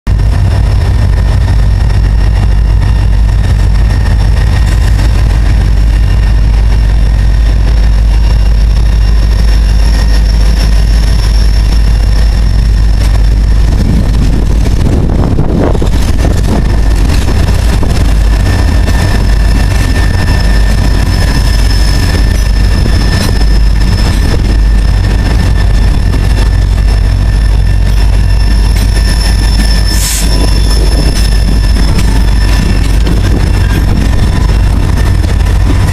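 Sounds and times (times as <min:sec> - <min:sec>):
diesel locomotives rumbling: 0:00.0 - 0:35.9.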